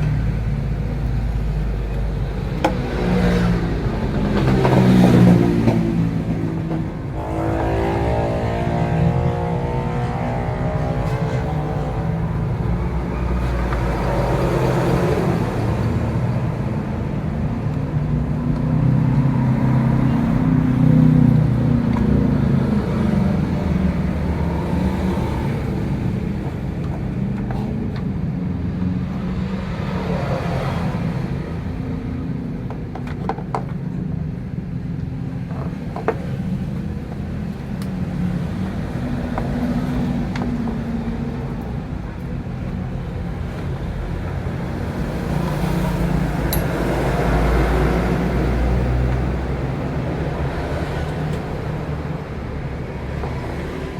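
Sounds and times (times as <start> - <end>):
vehicle engines running: 0.0 - 53.9.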